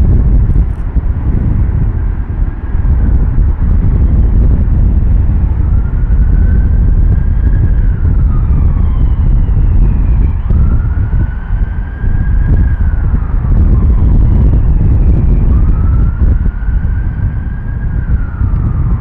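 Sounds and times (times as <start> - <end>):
jet engines rumbling: 0.0 - 19.0
siren wailing: 0.0 - 19.0
wind buffeting microphone: 0.0 - 19.0.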